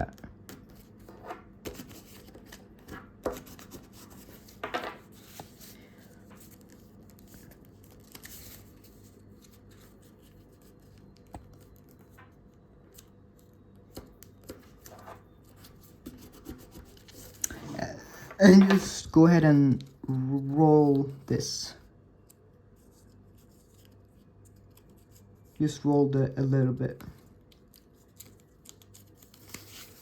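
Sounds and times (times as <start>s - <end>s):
paper being folded: 0.5s - 19.0s, 22.2s - 25.7s, 27.2s - 30.0s.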